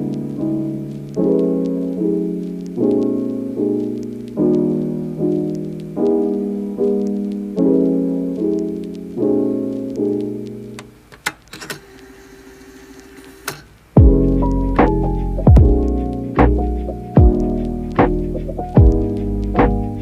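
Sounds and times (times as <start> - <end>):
slow piano chords: 0.0 - 10.8, 14.0 - 20.0.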